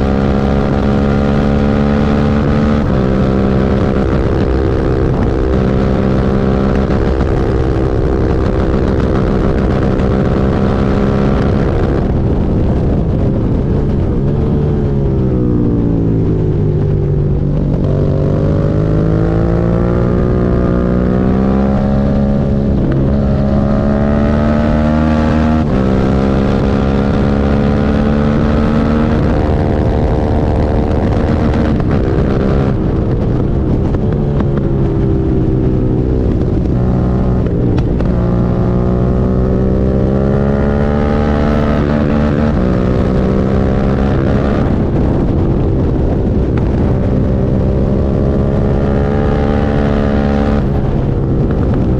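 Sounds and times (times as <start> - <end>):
motorcycle engine shifting gears: 0.0 - 51.9.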